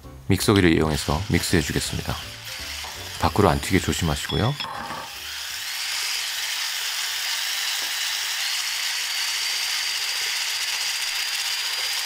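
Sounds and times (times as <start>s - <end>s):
electric hand blender whisking: 0.6s - 12.0s.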